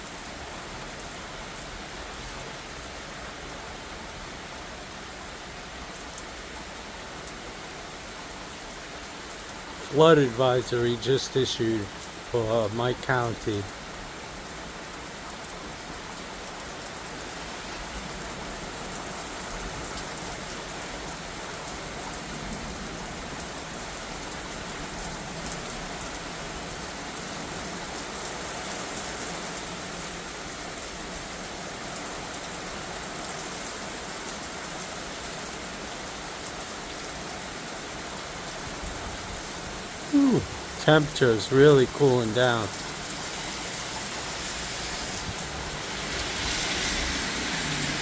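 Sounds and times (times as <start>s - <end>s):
heavy rain downpour: 0.0s - 48.0s.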